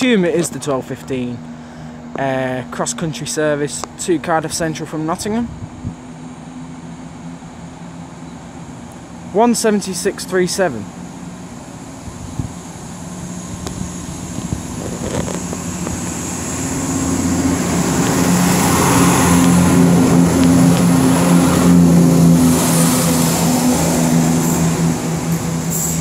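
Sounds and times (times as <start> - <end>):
diesel train engine drone: 0.0 - 26.0.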